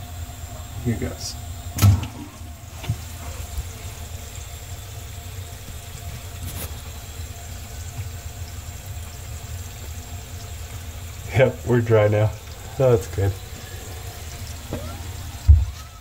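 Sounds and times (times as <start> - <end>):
water draining through sink pipe: 0.0 - 16.0.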